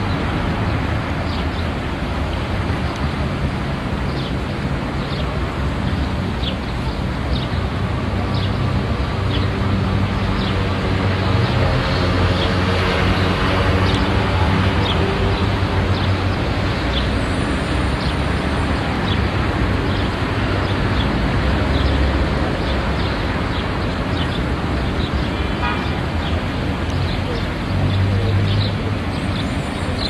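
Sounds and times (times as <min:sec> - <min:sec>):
road traffic rushing: 0:00.0 - 0:30.0.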